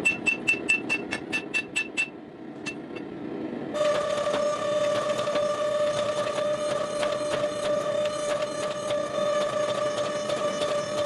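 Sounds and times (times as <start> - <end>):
machine humming and whining: 0.0 - 11.0.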